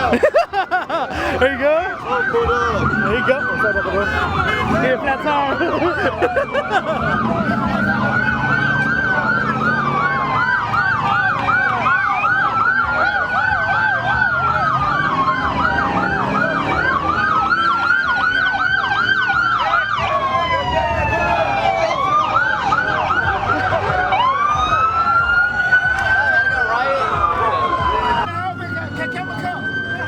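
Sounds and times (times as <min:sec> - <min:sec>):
police siren wailing: 0:00.0 - 0:30.0
police siren yelping: 0:00.0 - 0:30.0.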